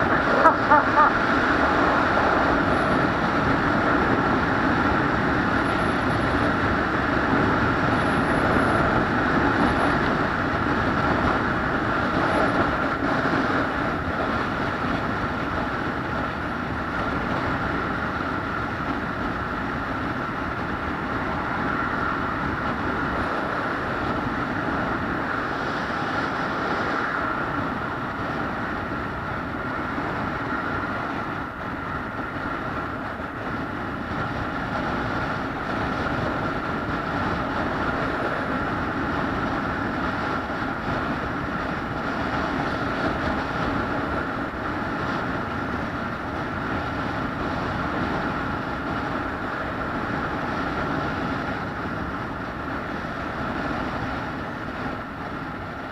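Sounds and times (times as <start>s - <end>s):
vehicle running noise: 0.0s - 55.9s.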